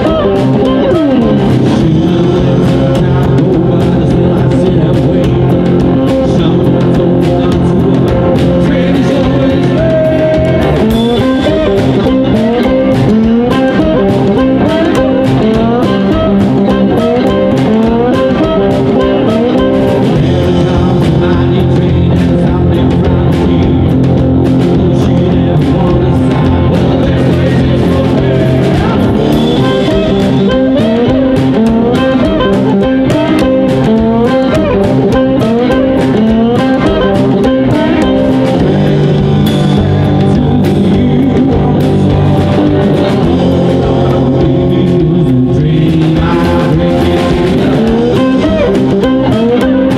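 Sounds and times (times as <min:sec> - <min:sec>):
drum kit: 0:00.0 - 0:49.9
electric guitars: 0:00.0 - 0:49.9
upright double bass: 0:00.0 - 0:49.9.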